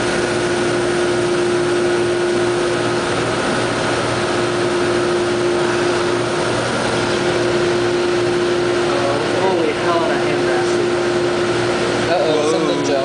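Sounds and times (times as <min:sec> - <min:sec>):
laser cutter running: 0:00.0 - 0:13.0.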